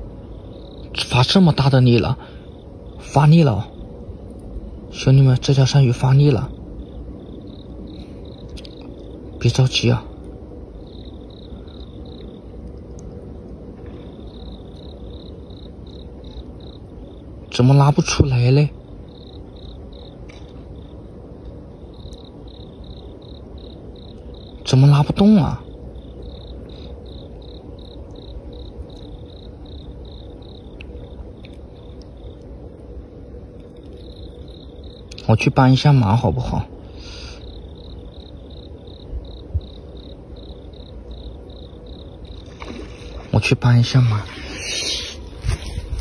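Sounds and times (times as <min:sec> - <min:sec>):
cricket chirping: 0:00.0 - 0:46.0
low steady rumbling: 0:00.0 - 0:46.0.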